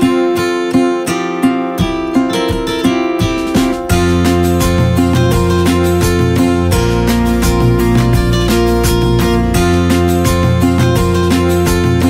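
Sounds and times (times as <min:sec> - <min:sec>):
strummed acoustic guitar: 0:00.0 - 0:12.0
steady low music part: 0:01.8 - 0:12.0.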